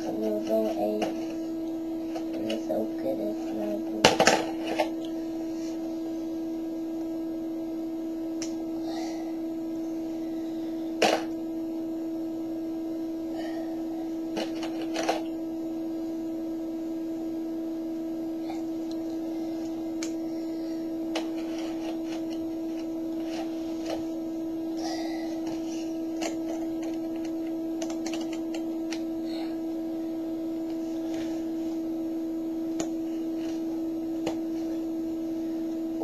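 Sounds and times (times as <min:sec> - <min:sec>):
steady low electronic tone: 0:00.0 - 0:36.0.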